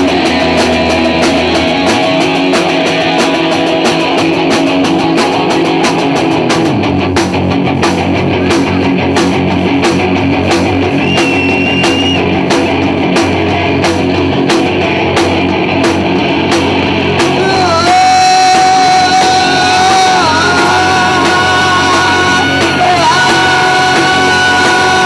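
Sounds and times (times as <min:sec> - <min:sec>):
drum beat: 0:00.0 - 0:25.0
guitar long held note with bends: 0:00.0 - 0:25.0
live rock band playing: 0:00.0 - 0:25.0.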